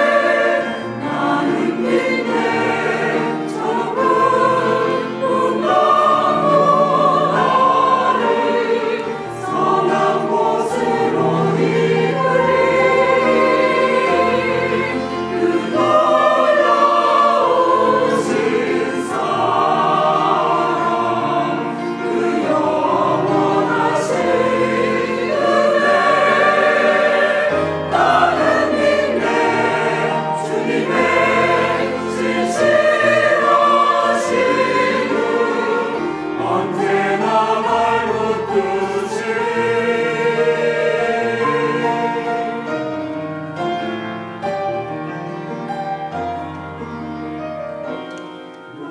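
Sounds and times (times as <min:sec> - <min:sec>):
church choir singing a hymn: 0:00.0 - 0:48.9
instrumental accompaniment: 0:00.0 - 0:48.9.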